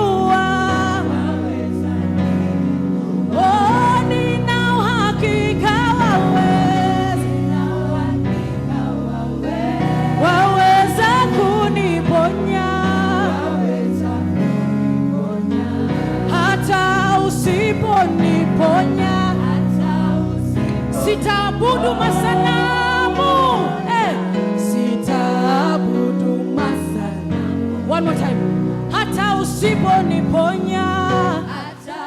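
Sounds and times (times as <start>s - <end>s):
sustained instrumental accompaniment: 0.0s - 32.0s
voices singing gospel: 0.0s - 32.0s.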